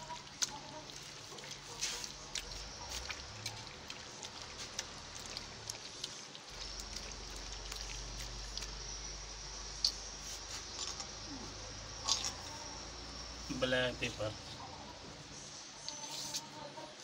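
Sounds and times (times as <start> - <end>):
wet squishing of meat by hand: 0.0 - 14.5
low hum and hiss: 0.0 - 17.0.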